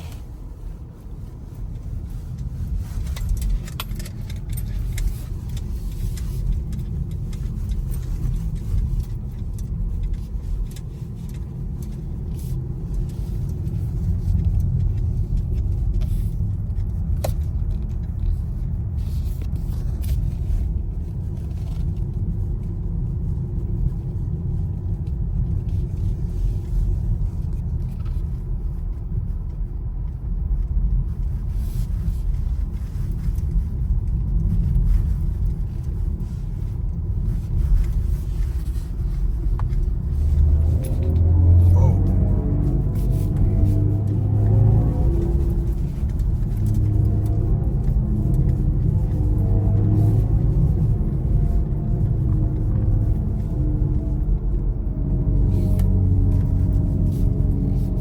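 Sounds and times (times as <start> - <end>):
electric car road and tyre rumble: 0.0 - 58.0.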